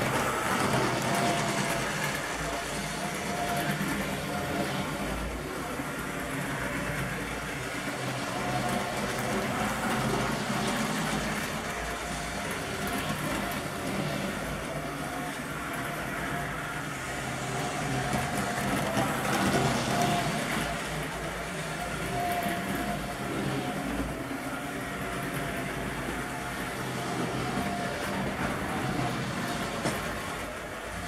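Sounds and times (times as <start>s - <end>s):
model train motor humming: 0.0s - 31.0s.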